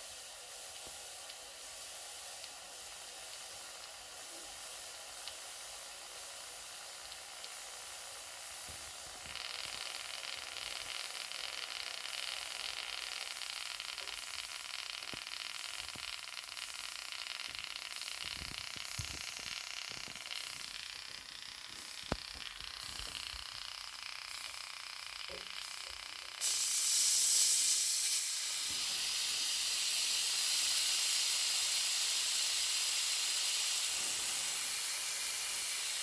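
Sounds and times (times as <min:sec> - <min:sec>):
steam hissing from toy boiler: 0:00.0 - 0:36.0.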